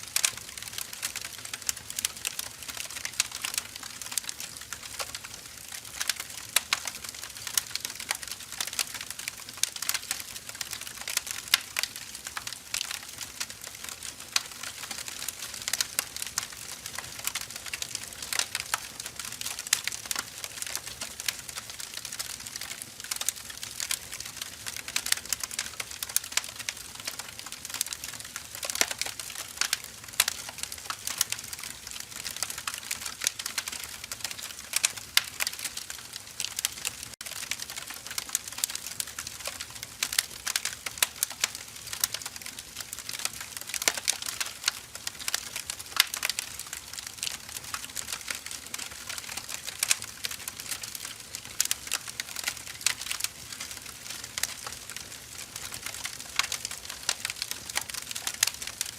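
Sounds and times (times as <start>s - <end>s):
firewood crackling and popping: 0.0s - 58.9s
soft steady hiss: 0.0s - 58.9s.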